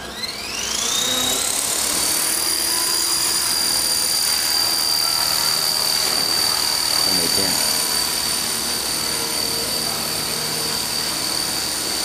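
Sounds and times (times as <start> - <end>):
helicopter motor and rotor whine: 0.0 - 12.0.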